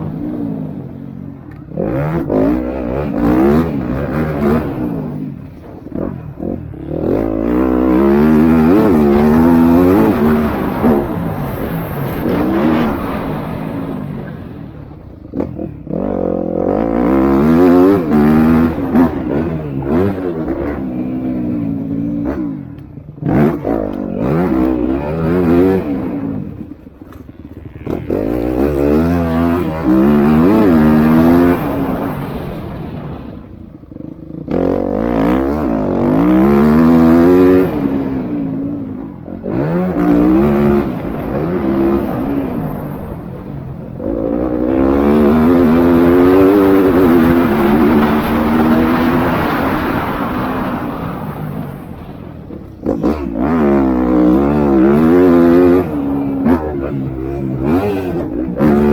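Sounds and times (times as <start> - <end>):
motocross bikes racing past: 0.0 - 58.9.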